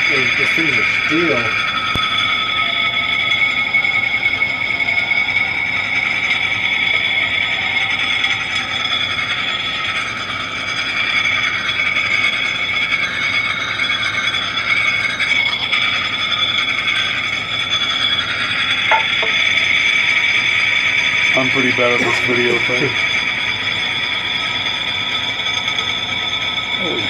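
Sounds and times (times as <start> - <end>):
spinning steel balls whining: 0.0 - 27.0.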